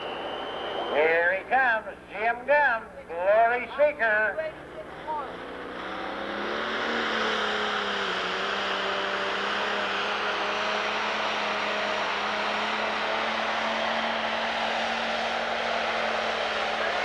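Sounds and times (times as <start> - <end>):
diesel tractor engine at full throttle: 0.0 - 17.0.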